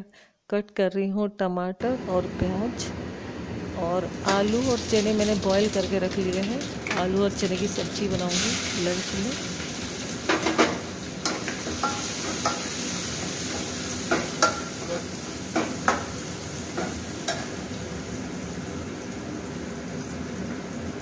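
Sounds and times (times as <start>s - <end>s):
oil sizzling: 3.5s - 21.0s.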